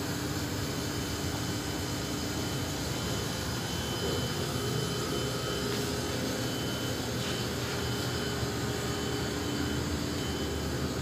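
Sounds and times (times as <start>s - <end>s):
air conditioning hum: 0.0s - 11.0s.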